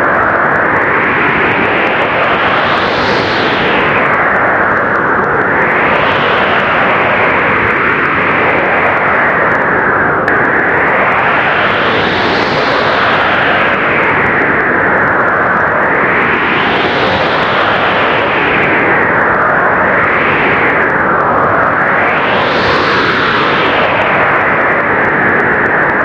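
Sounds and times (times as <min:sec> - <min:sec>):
blizzard wind blowing hard: 0:00.0 - 0:26.0.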